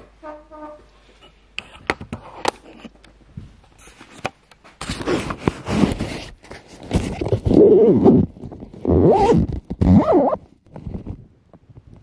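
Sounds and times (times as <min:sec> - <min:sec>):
rubbing and bumping on microphone: 0:01.6 - 0:12.0.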